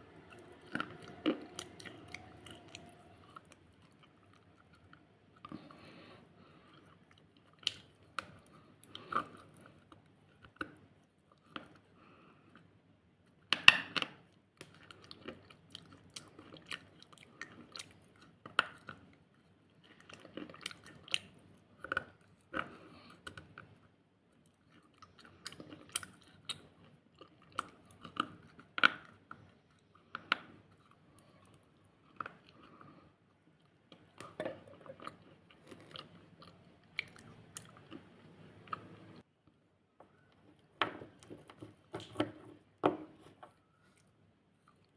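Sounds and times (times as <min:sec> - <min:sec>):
person chewing crisp food: 0:00.0 - 0:12.7, 0:14.0 - 0:39.3, 0:43.5 - 0:44.9.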